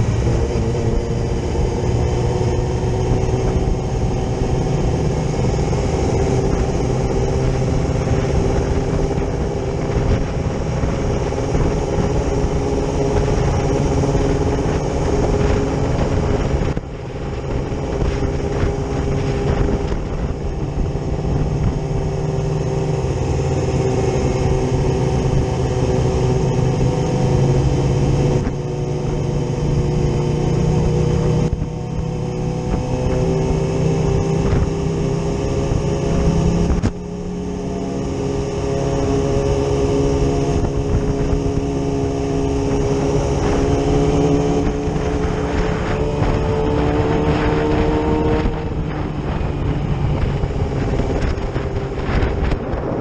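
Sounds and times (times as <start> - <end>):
sports bike engine running: 0.0 - 53.0.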